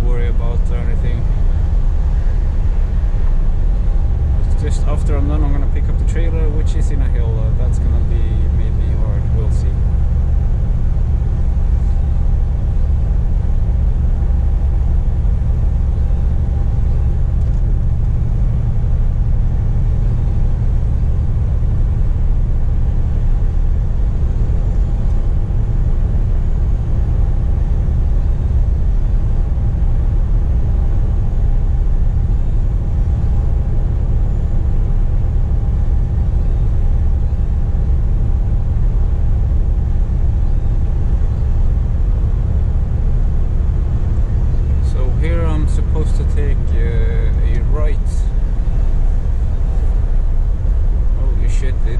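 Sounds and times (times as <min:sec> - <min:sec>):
faint steady whine: 0:00.0 - 0:51.9
truck engine rumble in cab: 0:00.0 - 0:51.9.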